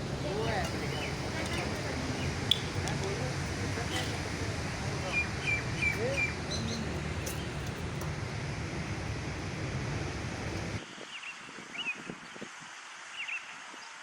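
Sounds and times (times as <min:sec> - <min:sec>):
low background noise: 0:00.0 - 0:11.6
birds chirping: 0:00.0 - 0:12.4.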